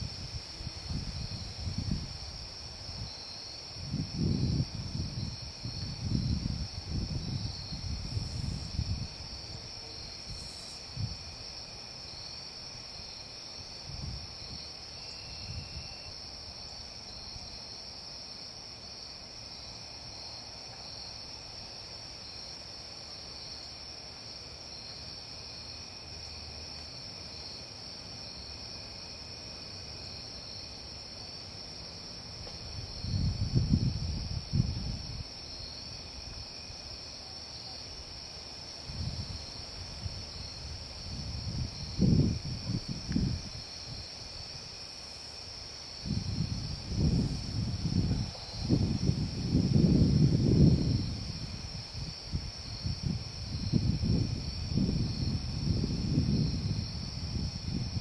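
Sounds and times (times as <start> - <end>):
crickets and insects chirring: 0.0 - 58.0.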